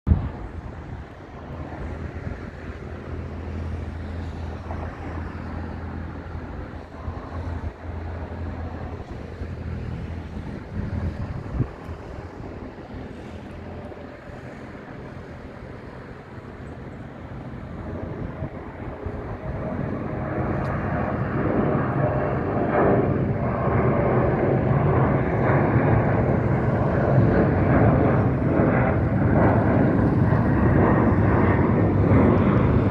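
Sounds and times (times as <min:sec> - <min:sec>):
distant jet engines roaring: 0:00.1 - 0:32.9.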